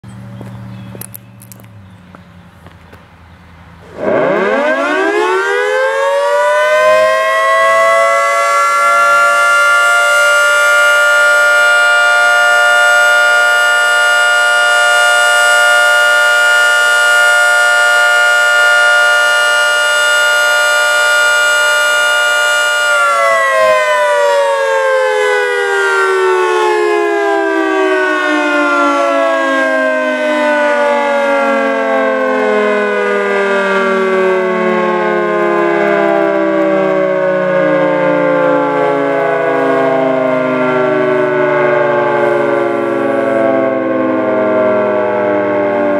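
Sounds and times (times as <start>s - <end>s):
dual-tone warning siren: 3.8s - 45.9s.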